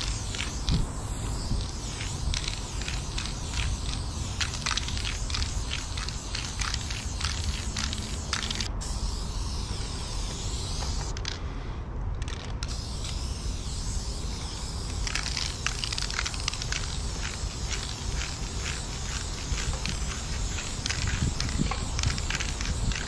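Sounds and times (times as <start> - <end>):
spray paint can hissing: 0.0 - 11.4, 12.2 - 23.0
steady low rumble: 0.0 - 23.0.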